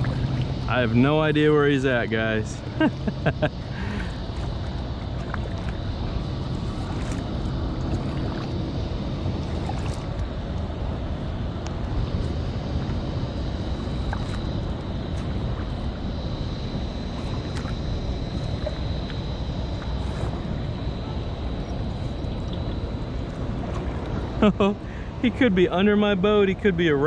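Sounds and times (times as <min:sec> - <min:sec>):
paddle splashing water: 0:00.0 - 0:25.4.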